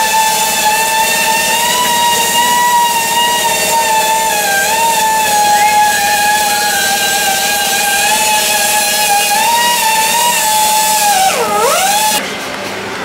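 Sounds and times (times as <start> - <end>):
small motor high-pitched whine: 0.0 - 12.2.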